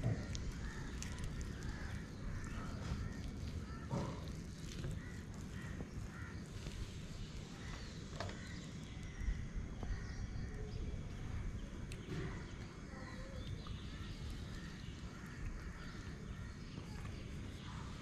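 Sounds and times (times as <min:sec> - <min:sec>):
faint bird calls: 0:00.0 - 0:18.0.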